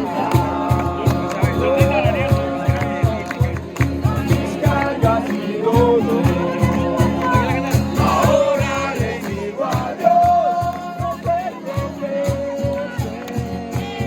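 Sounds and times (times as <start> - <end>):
group singing a praise song: 0.0 - 14.0.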